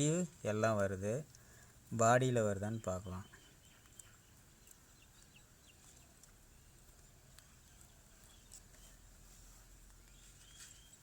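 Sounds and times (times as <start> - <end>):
faint bird chirps: 1.3 - 11.0.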